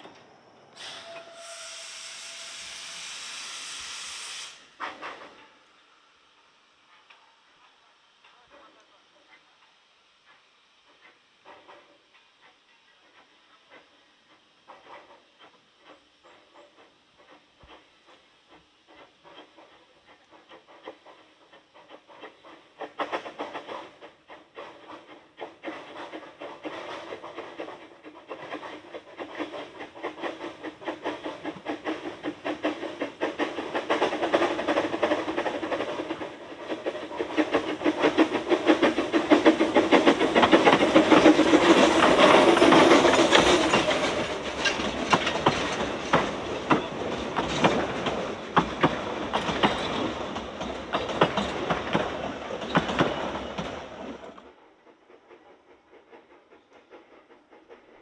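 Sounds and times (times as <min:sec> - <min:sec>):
steam locomotive exhaust beats: 0:00.7 - 0:58.0
wheels clicking over rail joints: 0:06.9 - 0:58.0.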